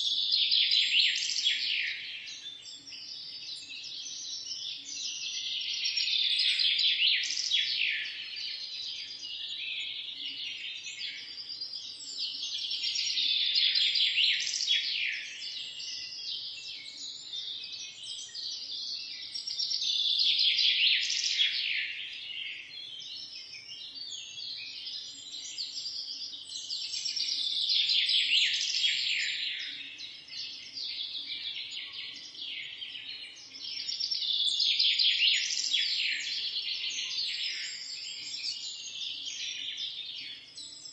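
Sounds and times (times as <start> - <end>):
forest birds chirping: 0.0 - 40.9.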